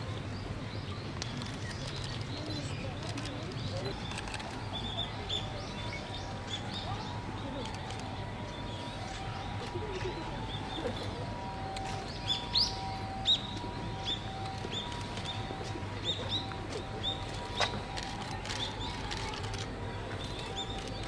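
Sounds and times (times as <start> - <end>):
steady low background hum: 0.0 - 21.0
small birds chirping: 0.7 - 21.0.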